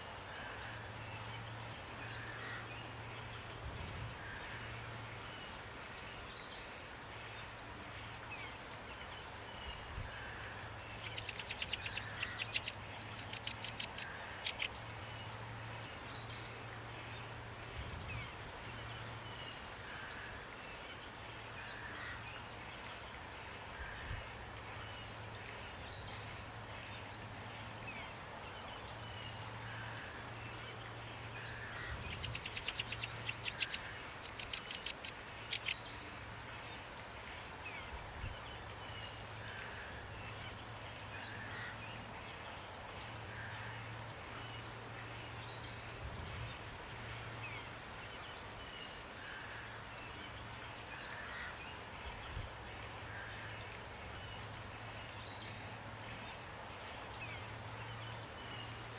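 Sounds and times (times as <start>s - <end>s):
small birds chirping: 4.3s - 20.9s, 23.8s - 58.9s.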